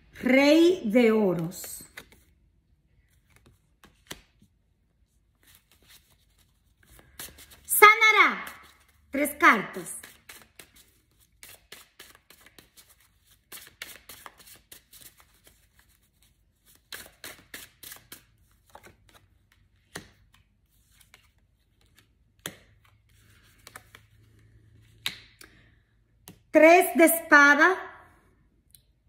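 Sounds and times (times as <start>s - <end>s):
cards shuffling: 1.3s - 4.6s, 5.3s - 7.7s, 8.4s - 26.5s.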